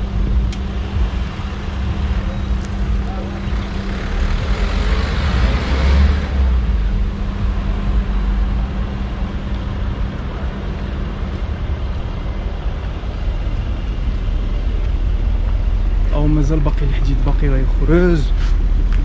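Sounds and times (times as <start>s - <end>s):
car engine idling: 0.0s - 5.6s, 6.3s - 19.0s
rush of noise: 0.0s - 19.0s.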